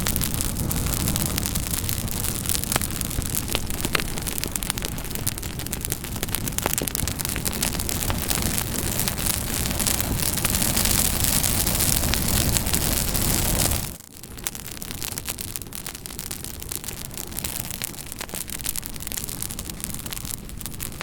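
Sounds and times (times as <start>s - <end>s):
campfire crackling and hissing: 0.0s - 21.0s.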